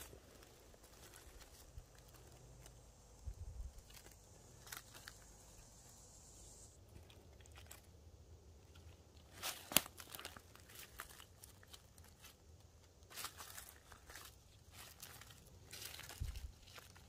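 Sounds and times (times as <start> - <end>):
dry leaves crackling: 0.0 - 17.0.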